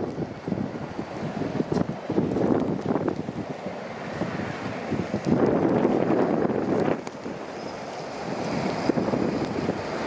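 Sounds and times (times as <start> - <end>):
heavy traffic rumble: 0.0 - 10.0
wind buffeting microphone: 0.0 - 10.0.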